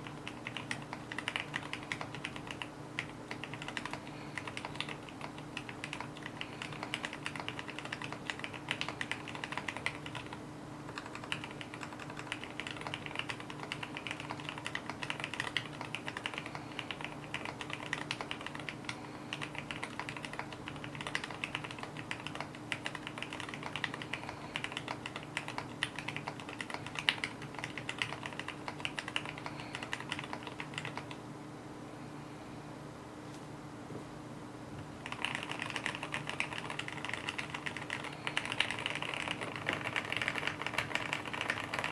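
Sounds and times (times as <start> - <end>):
typing on mechanical keyboard: 0.0 - 31.2, 35.0 - 41.9
faint steady hum: 0.0 - 41.9.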